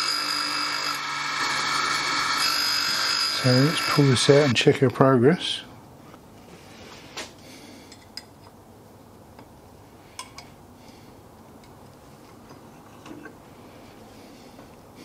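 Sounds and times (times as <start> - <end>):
faint steady background noise: 0.1 - 15.0.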